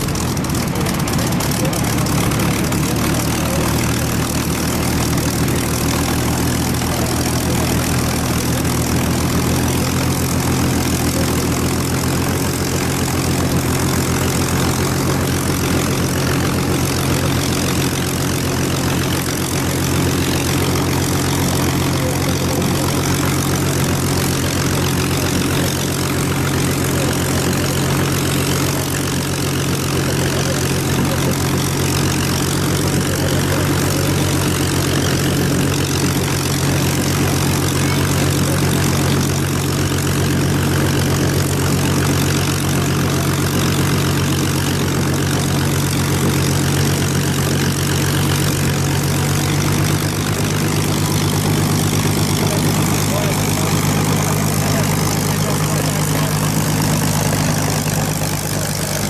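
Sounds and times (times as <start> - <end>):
aircraft engine idling: 0.0 - 59.0.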